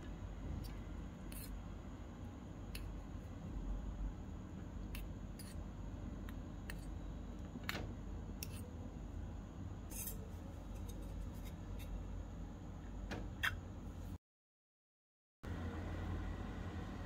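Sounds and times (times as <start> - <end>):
low steady hum: 0.0 - 14.2, 15.4 - 17.0.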